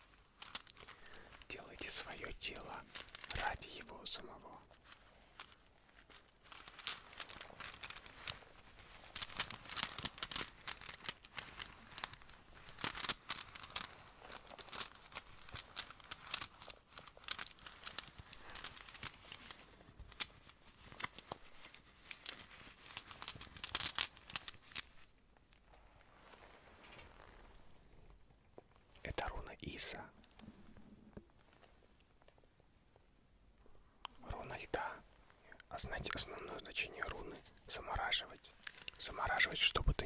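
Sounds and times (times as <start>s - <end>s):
material crinkling and rustling: 0.0s - 40.0s.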